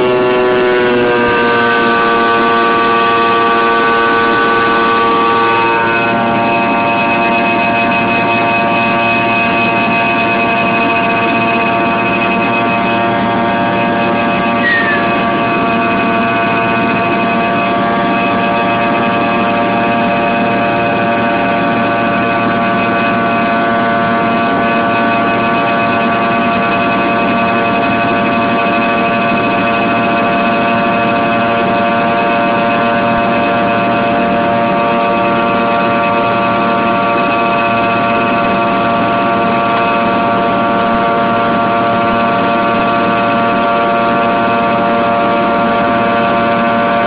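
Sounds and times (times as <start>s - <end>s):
jet engine whine in cabin: 0.0s - 47.0s.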